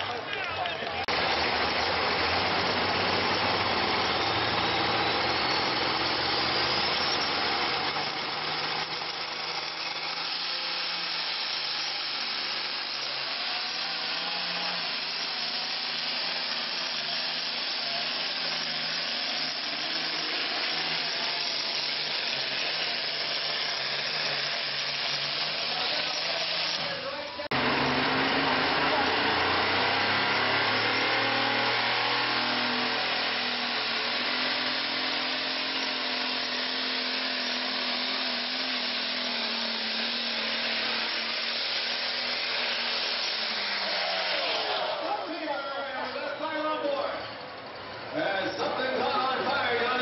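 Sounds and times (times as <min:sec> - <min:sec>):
tractor engine running flat out: 0:00.0 - 0:50.0
high turbo whine: 0:01.1 - 0:45.5.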